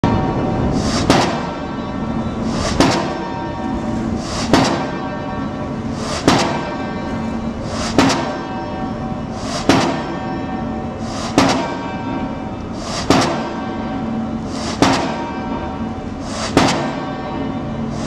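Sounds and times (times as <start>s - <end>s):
machinery hum: 0.0s - 18.0s
pile hammer blows: 0.0s - 18.0s.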